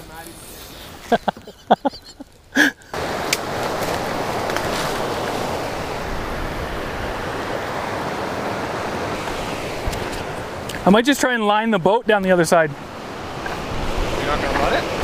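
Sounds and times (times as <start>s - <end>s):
river rapids rushing: 2.9s - 15.0s.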